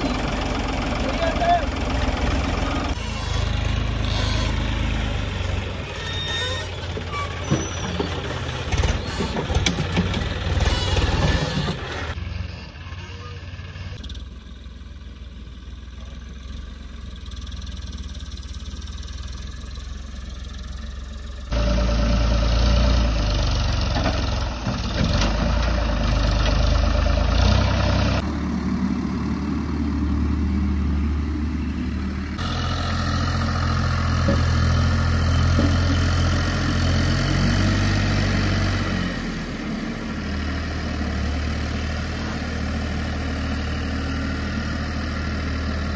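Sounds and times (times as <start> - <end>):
diesel tractor engine running: 0.0 - 45.9.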